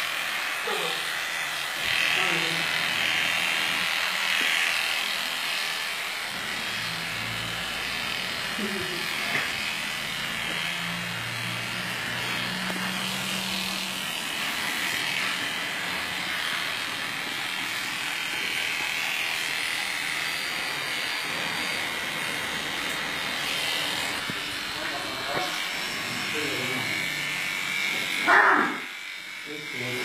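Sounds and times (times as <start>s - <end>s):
electric clipper shaving fur: 0.0s - 30.0s.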